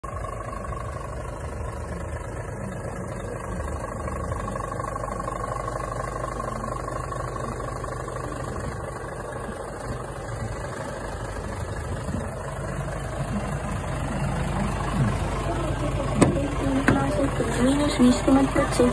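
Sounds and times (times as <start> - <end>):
truck engine droning: 0.0 - 18.9.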